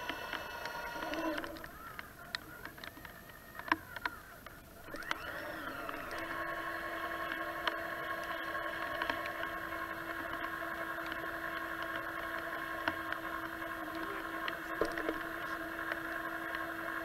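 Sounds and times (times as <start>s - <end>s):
electric winch motor whining: 0.0s - 17.0s.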